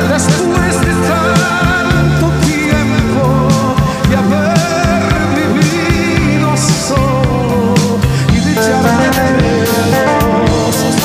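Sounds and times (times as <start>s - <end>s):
live band with guitar: 0.0s - 11.0s
man singing with vibrato: 0.0s - 11.0s.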